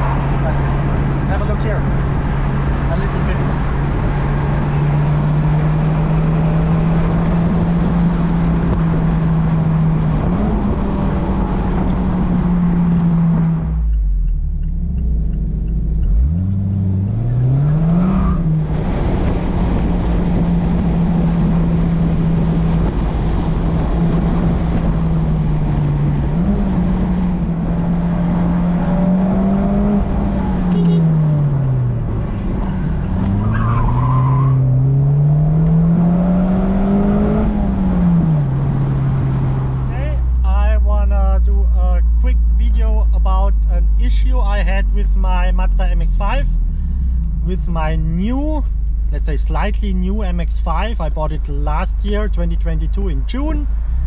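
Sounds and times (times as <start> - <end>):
car engine: 0.0 - 54.0
road noise: 0.0 - 54.0.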